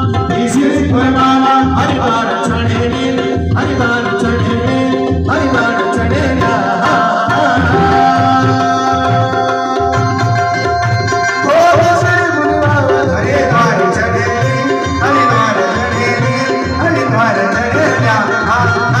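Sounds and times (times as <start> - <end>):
hand drum beat: 0.0 - 19.0.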